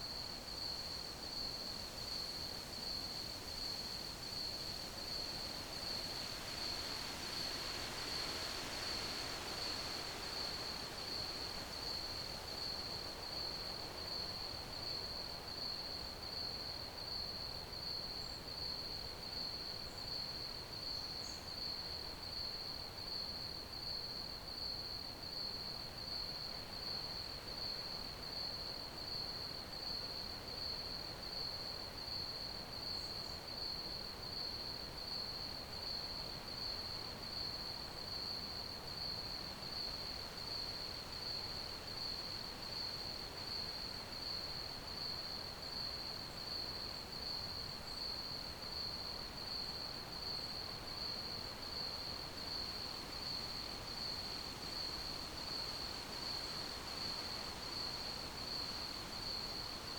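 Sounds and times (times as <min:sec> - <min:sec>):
crickets chirping: 0:00.0 - 0:59.9
faint background hiss: 0:00.0 - 0:59.9.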